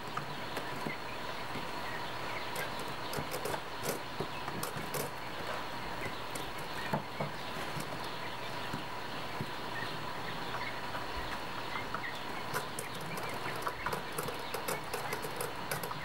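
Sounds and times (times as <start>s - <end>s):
chicks pecking in bedding: 0.0s - 16.0s
faint constant tone: 0.0s - 16.0s.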